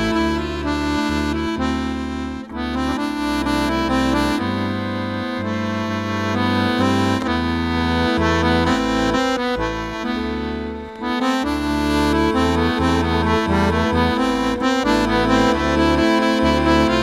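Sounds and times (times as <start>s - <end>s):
accordion folk tune: 0.0s - 17.0s.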